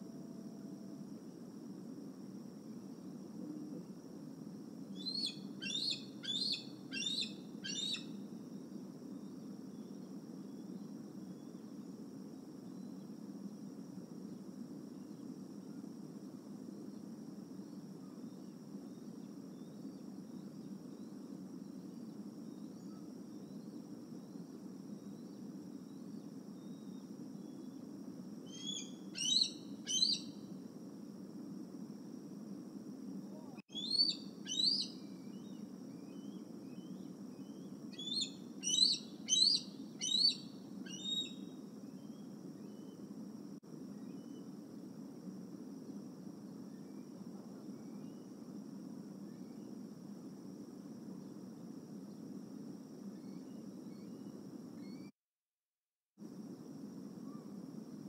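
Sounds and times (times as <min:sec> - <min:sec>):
low background noise: 0:00.0 - 0:55.0.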